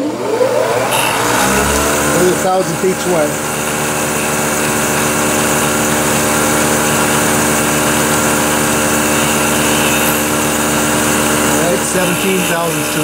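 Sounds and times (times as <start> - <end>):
milling machine running: 0.0 - 13.0.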